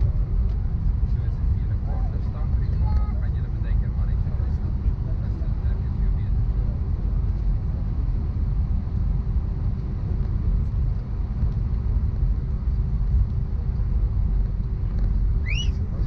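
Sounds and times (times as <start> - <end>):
aircraft cabin low rumble: 0.0 - 16.0
faint constant hum: 0.0 - 16.0.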